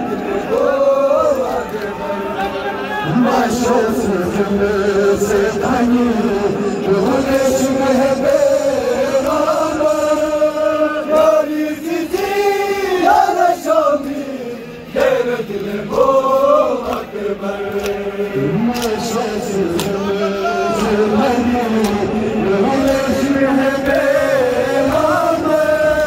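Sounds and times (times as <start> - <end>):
group chanting in unison: 0.0 - 26.0
men chanting lament into microphone: 0.0 - 26.0.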